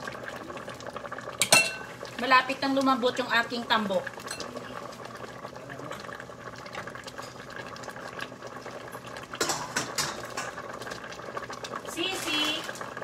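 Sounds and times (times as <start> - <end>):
stew bubbling in a pot: 0.0 - 13.0.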